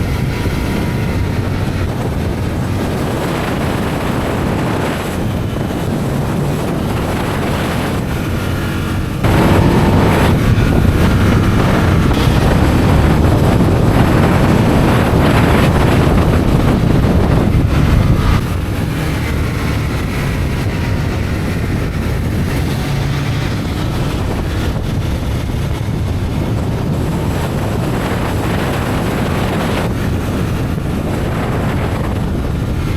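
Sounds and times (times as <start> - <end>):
motorcycle engine accelerating: 0.0 - 32.9
wind buffeting microphone: 0.0 - 32.9.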